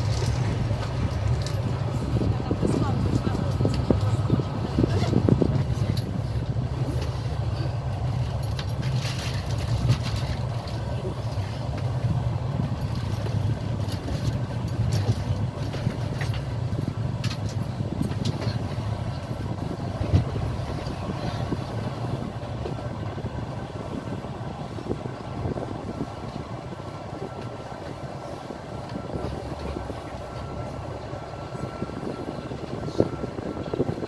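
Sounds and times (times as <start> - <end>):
clicks and knocks of train: 0.0 - 34.0
train wheels rumbling: 0.0 - 34.0.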